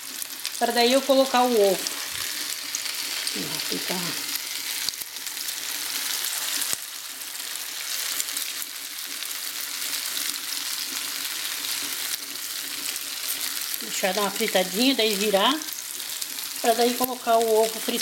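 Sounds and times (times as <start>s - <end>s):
sausages sizzling in oil: 0.0s - 18.0s.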